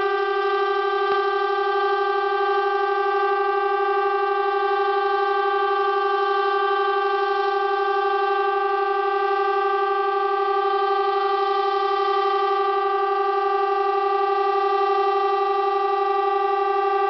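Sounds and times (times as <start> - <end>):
air raid siren steady tone: 0.0 - 17.0.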